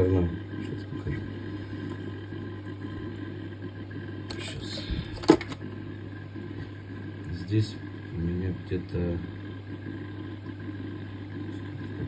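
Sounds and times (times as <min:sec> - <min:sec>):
protein skimmer pump humming: 0:00.0 - 0:12.0.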